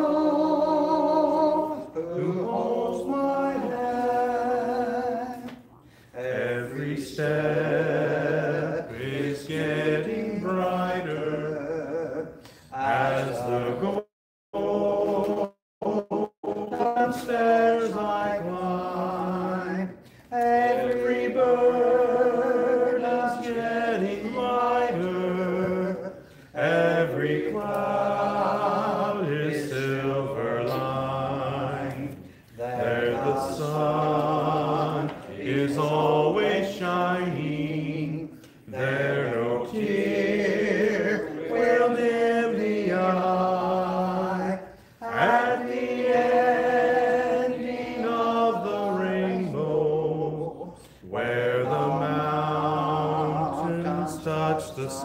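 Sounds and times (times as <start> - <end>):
slow hymn singing: 0.0 - 55.0.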